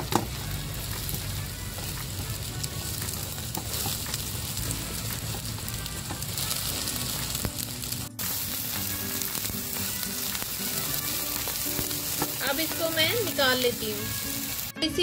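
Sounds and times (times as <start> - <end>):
egg sizzling in hot oil: 0.0 - 14.8
spatula stirring in pan: 0.9 - 13.0.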